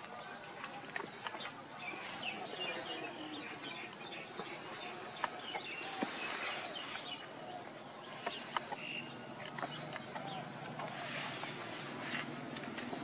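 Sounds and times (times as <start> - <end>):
small birds chirping: 0.0 - 13.0
open-air background hiss: 1.3 - 13.0.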